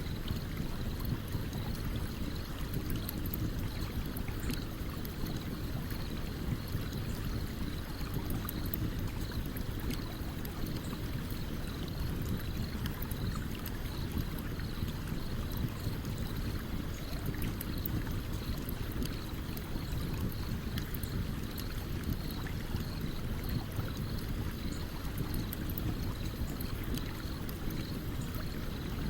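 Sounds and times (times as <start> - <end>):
stream water running: 0.0 - 29.0.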